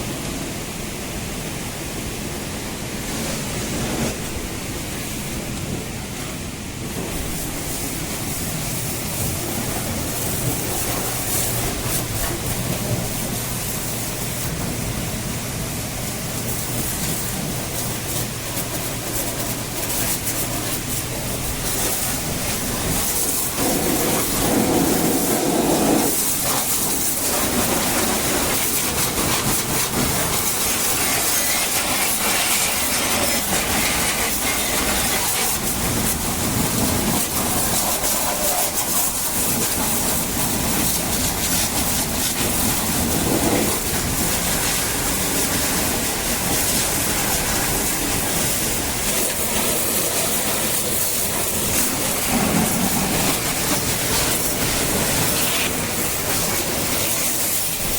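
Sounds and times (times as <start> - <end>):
high-pressure water jet hissing: 0.0 - 57.9.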